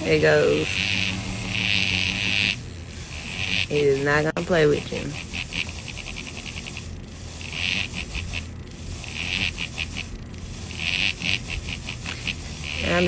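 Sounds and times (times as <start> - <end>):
steady low hum: 0.0 - 13.0
vibrator buzzing in pulses: 0.0 - 13.0.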